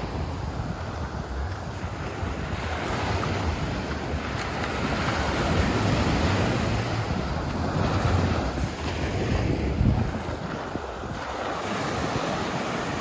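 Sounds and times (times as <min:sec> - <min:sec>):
ocean waves breaking on sand: 0:00.0 - 0:13.0
wind buffeting microphone: 0:00.0 - 0:13.0.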